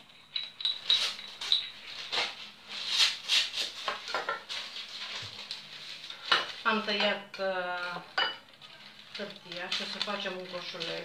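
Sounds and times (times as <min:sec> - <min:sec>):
baking paper crinkling: 0:00.8 - 0:11.0.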